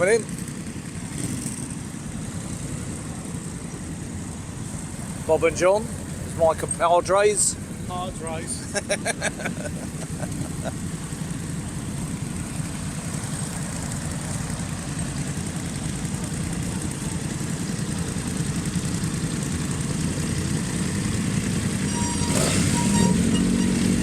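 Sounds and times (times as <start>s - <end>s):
motorcycle engine low rumble: 0.0s - 24.0s.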